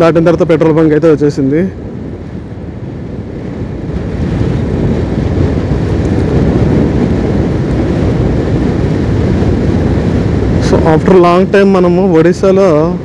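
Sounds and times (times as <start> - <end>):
wind buffeting on microphone: 0.0 - 13.0.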